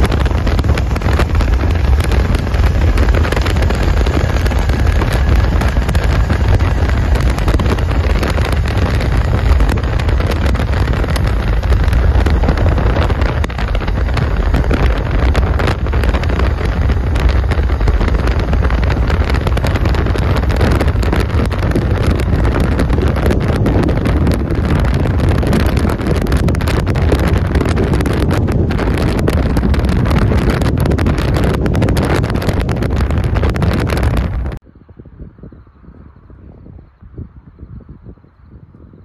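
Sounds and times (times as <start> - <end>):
road noise: 0.0 - 39.0
wind buffeting microphone: 0.0 - 39.0.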